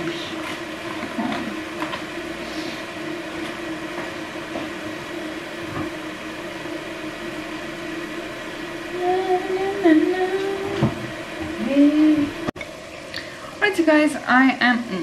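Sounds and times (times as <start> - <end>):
steady rushing hum: 0.0 - 15.0.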